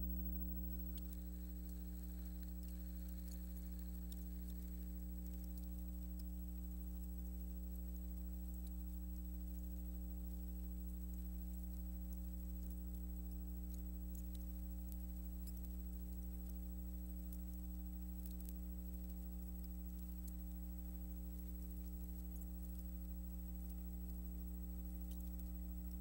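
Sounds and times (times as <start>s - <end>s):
electrical mains hum: 0.0s - 26.0s
faint ticks and crackle: 0.0s - 26.0s.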